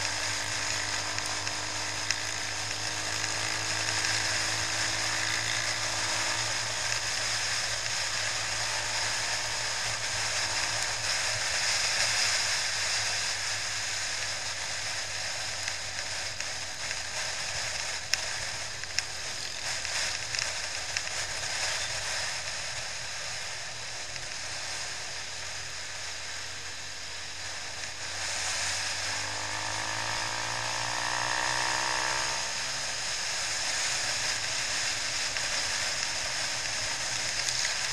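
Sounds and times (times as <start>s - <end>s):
motorcycle engine hum: 0.0s - 37.9s.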